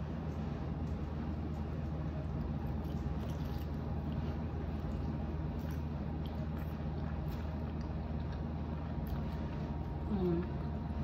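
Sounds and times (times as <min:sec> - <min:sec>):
steady low hum: 0:00.0 - 0:11.0
wet chewing: 0:00.2 - 0:11.0.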